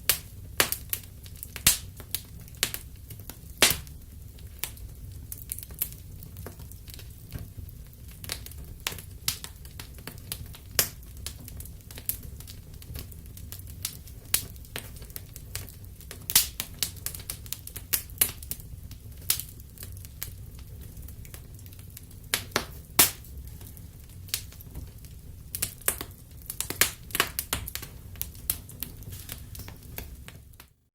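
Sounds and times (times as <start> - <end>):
low rumble of flames: 0.0 - 30.8
wood fire pops and snaps: 0.0 - 30.8.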